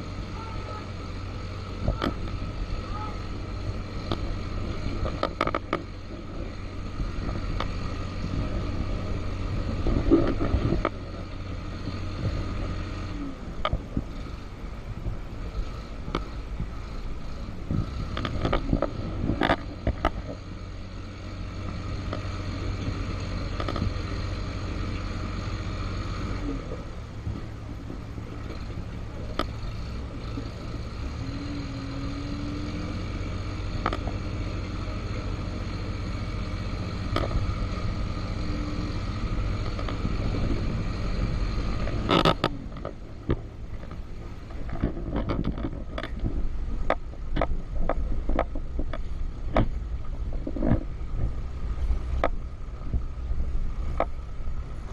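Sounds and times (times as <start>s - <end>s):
knocks and rattles over bumps: 0.0s - 54.9s
vehicle engine running: 0.0s - 54.9s.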